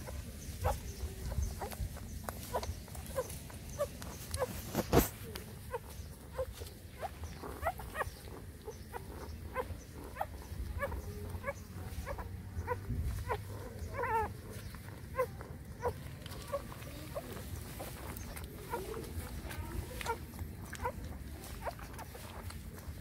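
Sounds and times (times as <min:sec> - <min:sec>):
puppies squeaking and whining: 0:00.0 - 0:23.0.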